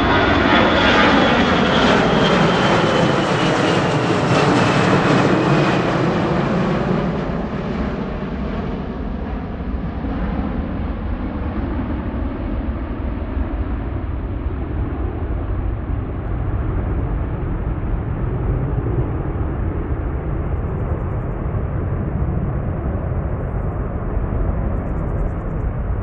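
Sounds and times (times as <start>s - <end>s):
jet engines deep rumble: 0.0s - 26.0s.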